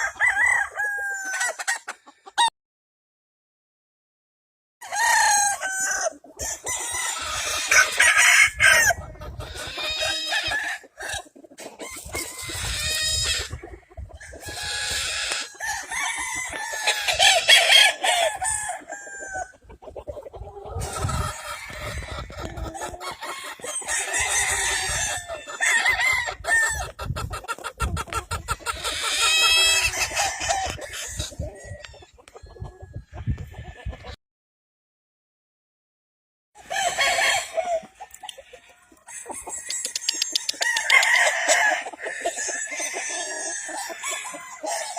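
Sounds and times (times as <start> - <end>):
roosters crowing and clucking: 0.0 - 2.5, 4.8 - 34.2, 36.6 - 44.9.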